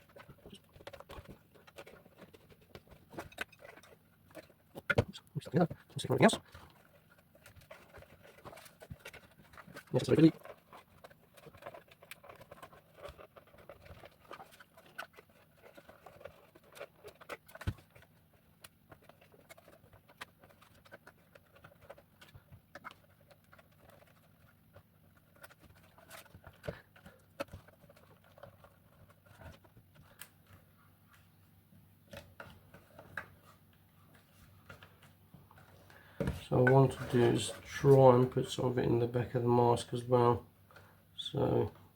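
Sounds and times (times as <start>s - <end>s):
hands tapping and rustling plastic: 0.0s - 41.9s.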